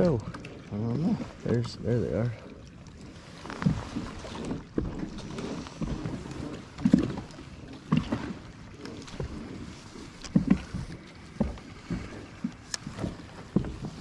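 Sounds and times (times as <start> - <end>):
water lapping against boat hull: 0.0 - 14.0
wind and water rushing: 0.0 - 14.0.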